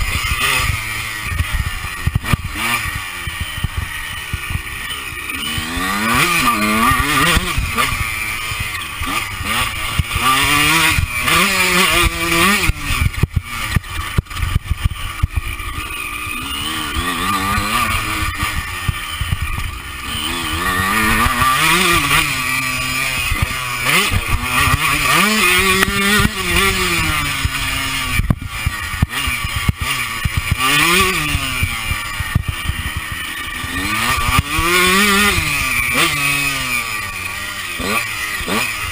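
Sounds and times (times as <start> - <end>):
two-stroke motocross engine revving: 0.0 - 38.9.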